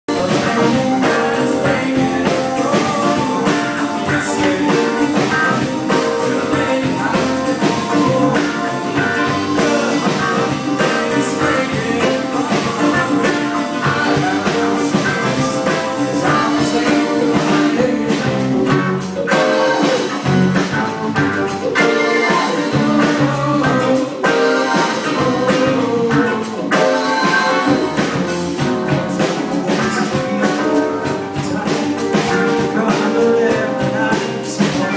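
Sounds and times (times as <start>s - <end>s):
drum kit beat: 0.1s - 34.9s
electric guitar: 0.1s - 34.9s.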